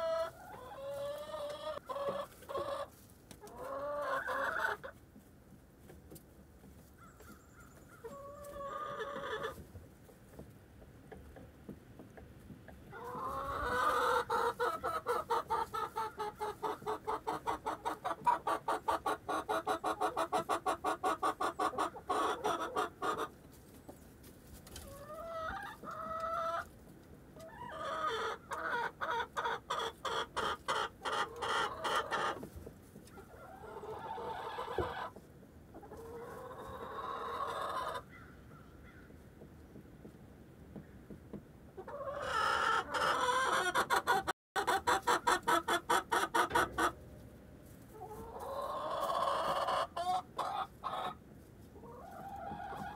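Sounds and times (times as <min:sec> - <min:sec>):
hens clucking: 0:00.0 - 0:52.9.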